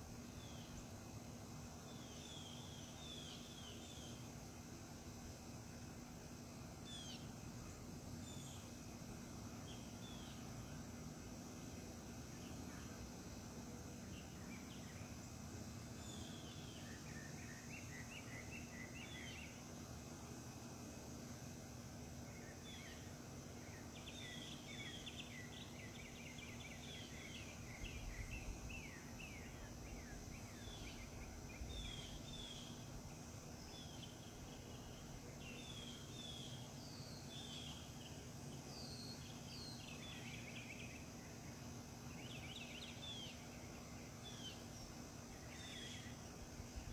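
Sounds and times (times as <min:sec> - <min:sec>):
high hiss: 0:00.0 - 0:46.9.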